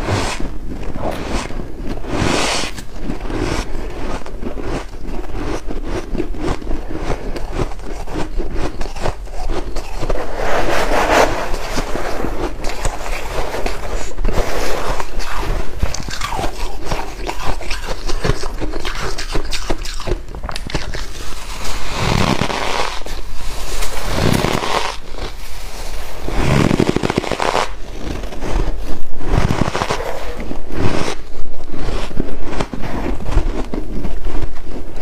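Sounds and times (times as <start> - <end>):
ice crunching being chewed: 0.4 - 10.4, 11.4 - 35.0.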